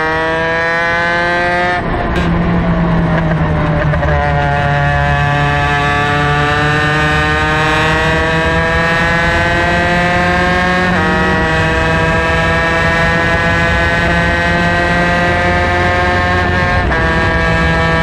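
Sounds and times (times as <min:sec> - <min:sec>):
racing kart engine at full throttle: 0:00.0 - 0:18.0.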